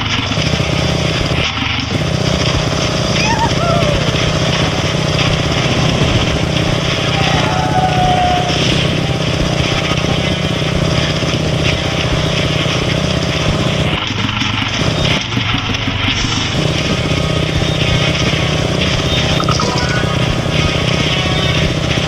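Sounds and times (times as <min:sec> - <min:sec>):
wind and road noise: 0:00.0 - 0:19.5
motorcycle engine running: 0:00.0 - 0:22.0.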